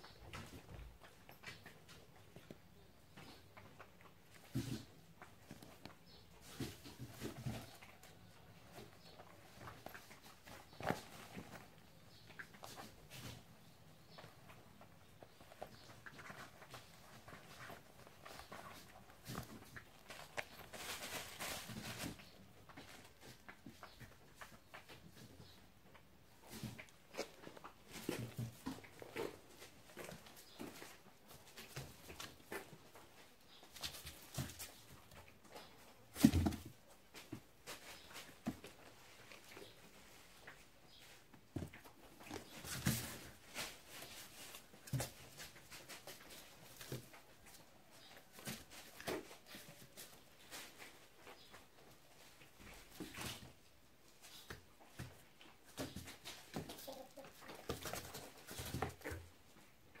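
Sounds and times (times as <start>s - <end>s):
kittens rustling in dry straw: 4.4s - 25.6s, 26.4s - 59.2s.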